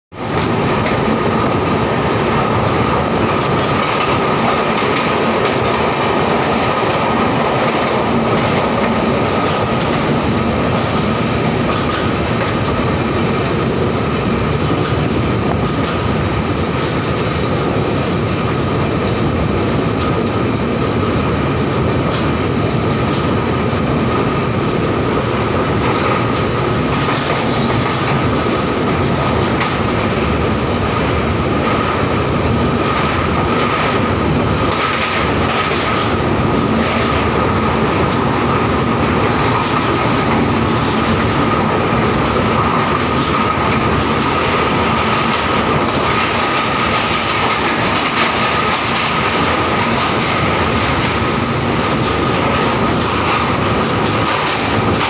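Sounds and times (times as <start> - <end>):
train wheels rushing on rails: 0.1 - 55.0.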